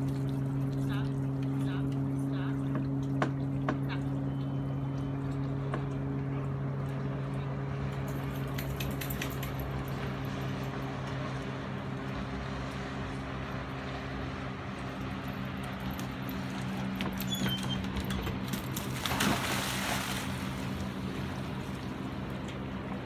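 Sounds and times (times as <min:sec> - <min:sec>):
steady low hum: 0:00.0 - 0:23.0
water lapping around a dock: 0:00.0 - 0:23.0.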